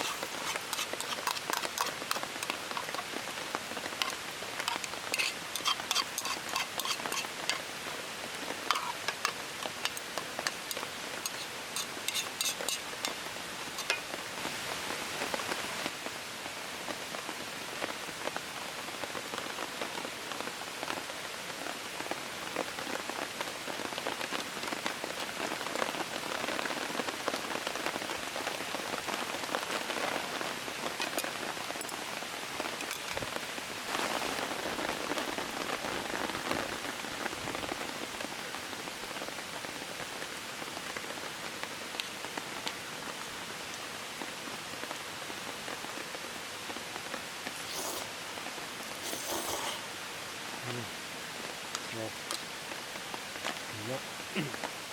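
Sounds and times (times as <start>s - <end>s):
steady rain falling: 0.0s - 54.9s
sharp ticks of raindrops: 0.2s - 16.1s, 16.7s - 47.6s, 51.4s - 54.9s.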